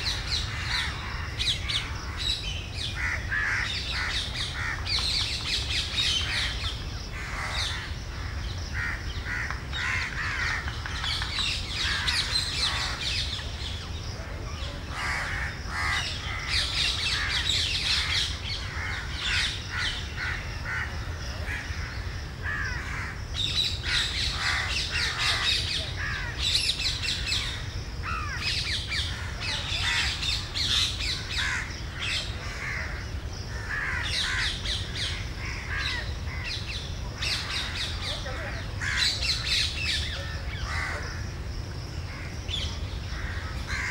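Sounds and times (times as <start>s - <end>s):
birds calling and chirping: 0.0s - 43.9s.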